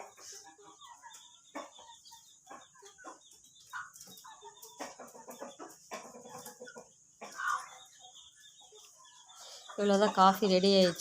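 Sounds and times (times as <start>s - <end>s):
faint chickens clucking: 0.0s - 11.0s.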